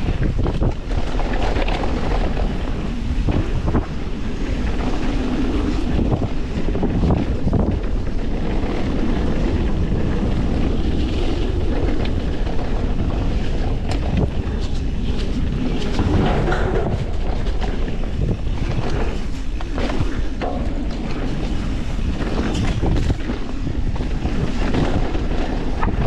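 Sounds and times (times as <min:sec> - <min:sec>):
bike clicks and rattles: 0:00.0 - 0:26.0
tyres rumbling over rough trail: 0:00.0 - 0:26.0
wind buffeting microphone: 0:00.0 - 0:26.0.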